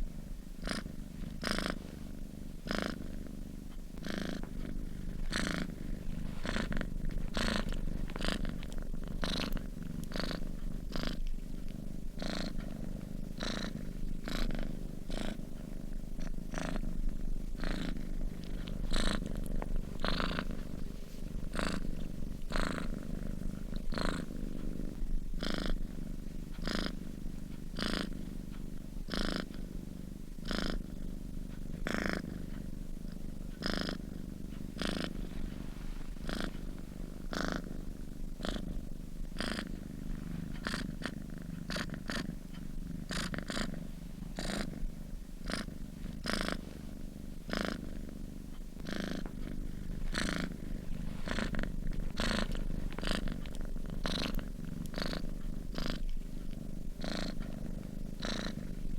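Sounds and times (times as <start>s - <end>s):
cat purring: 0.0s - 58.9s.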